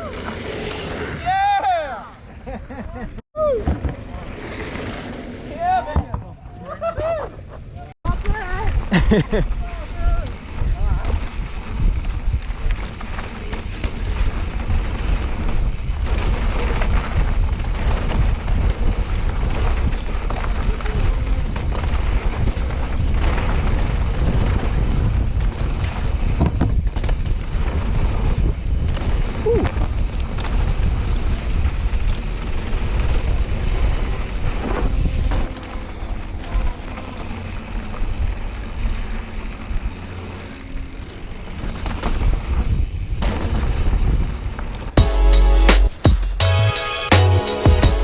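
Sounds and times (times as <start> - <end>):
mountain bike rumble and rattle: 0.0 - 3.2, 3.8 - 45.0
wind buffeting microphone: 5.8 - 45.0.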